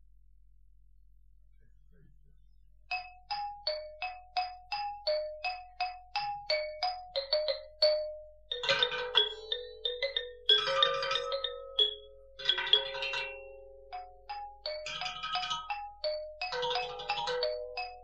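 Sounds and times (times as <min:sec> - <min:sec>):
bell-like percussion melody: 0:02.9 - 0:18.0.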